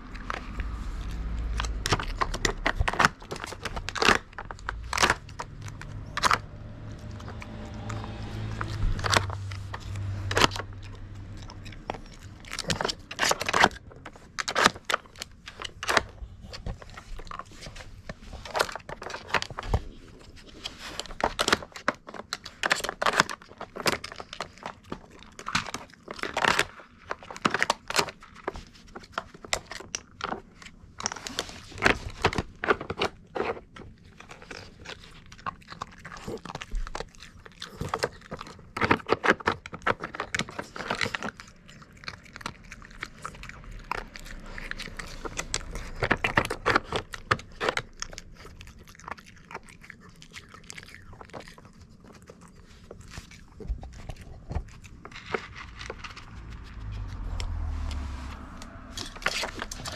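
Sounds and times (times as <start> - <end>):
dog crunching hard treats: 0.0 - 59.9.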